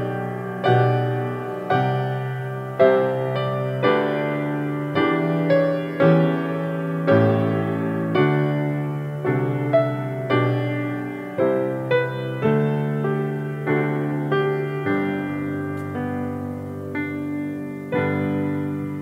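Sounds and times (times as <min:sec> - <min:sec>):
slow soft piano chords: 0:00.0 - 0:19.0.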